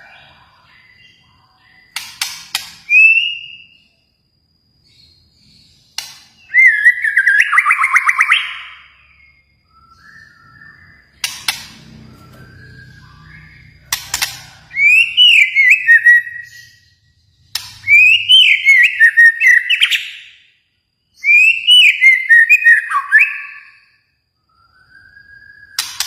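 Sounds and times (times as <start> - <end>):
bird singing whistles: 2.7 - 4.0, 4.8 - 26.0.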